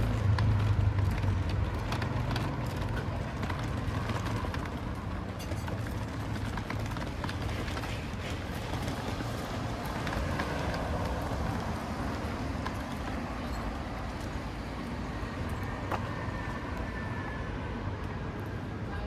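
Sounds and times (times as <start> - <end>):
footsteps on pavement: 0.0 - 18.7
low rumble of traffic: 0.0 - 19.0.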